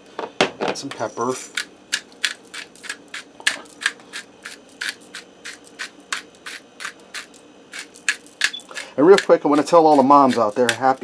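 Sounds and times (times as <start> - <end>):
pepper grinder grinding: 0.9 - 11.0.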